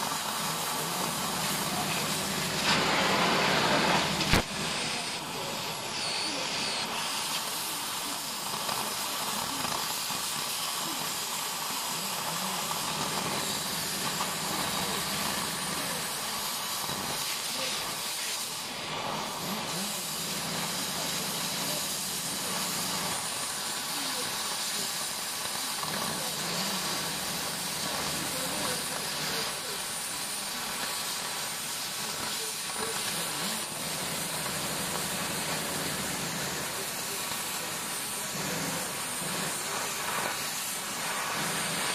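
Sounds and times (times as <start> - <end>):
cutting torch hissing: 0.0 - 41.9.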